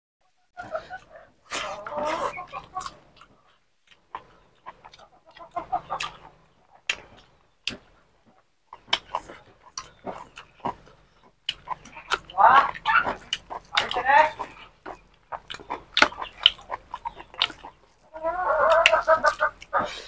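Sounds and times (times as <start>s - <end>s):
man chewing and lip-smacking: 0.6s - 20.0s
fingers picking at food: 0.8s - 18.0s.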